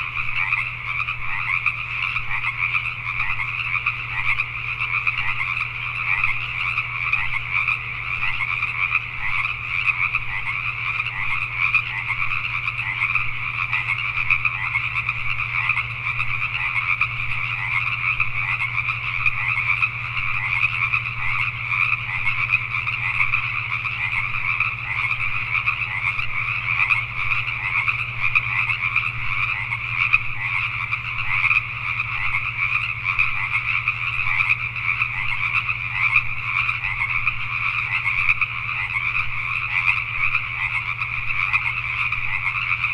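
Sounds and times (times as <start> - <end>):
frog chorus: 0.0 - 42.9
steady low hum: 0.0 - 42.9.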